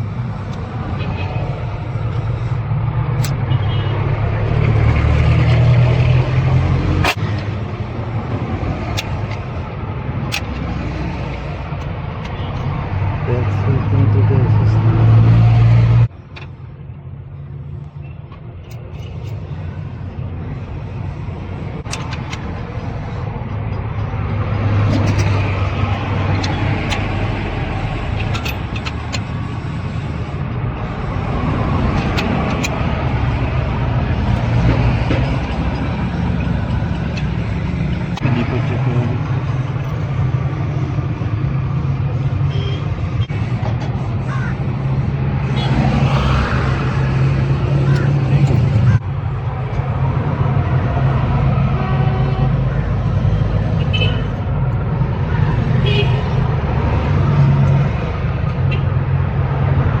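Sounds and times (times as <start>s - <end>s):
diesel engine running: 0.0s - 60.0s.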